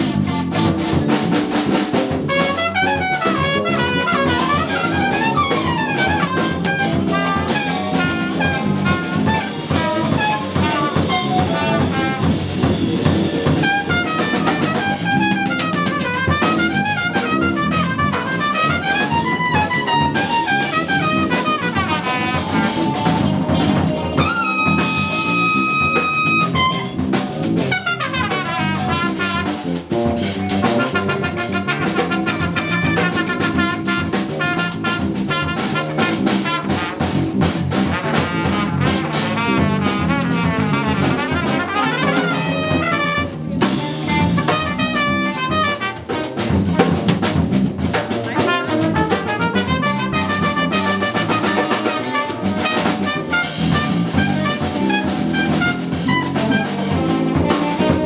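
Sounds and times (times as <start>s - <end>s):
drum kit: 0.0s - 58.0s
electric bass: 0.0s - 58.0s
jazz trumpet solo: 0.0s - 58.0s.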